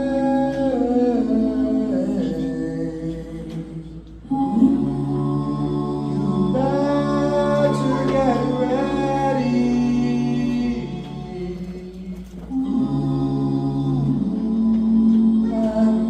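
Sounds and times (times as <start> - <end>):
a cappella voices singing chords: 0.0 - 16.0.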